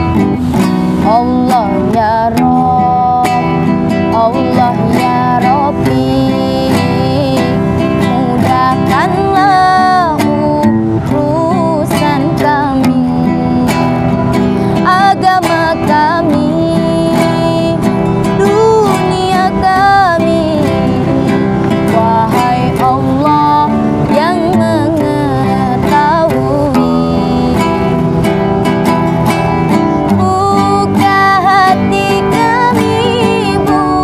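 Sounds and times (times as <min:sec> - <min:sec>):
strummed acoustic guitar: 0:00.0 - 0:34.0
woman singing: 0:00.0 - 0:34.0.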